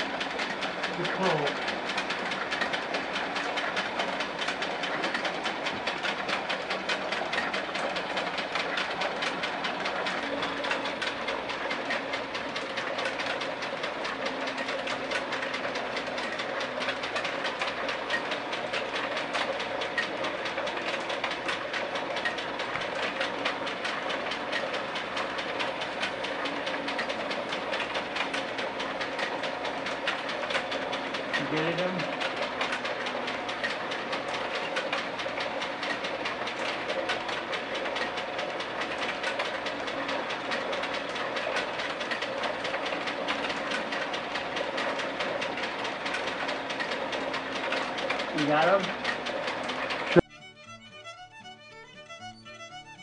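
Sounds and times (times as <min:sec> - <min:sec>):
motor hum: 0:00.0 - 0:53.0.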